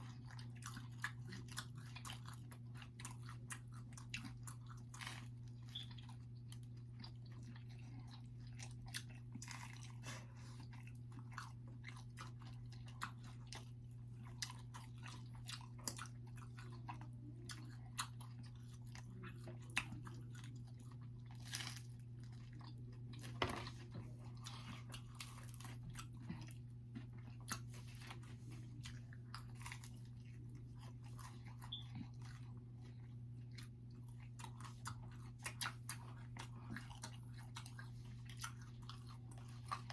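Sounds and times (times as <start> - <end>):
pizza being chewed: 0.0 - 39.9
steady low hum: 0.0 - 39.9.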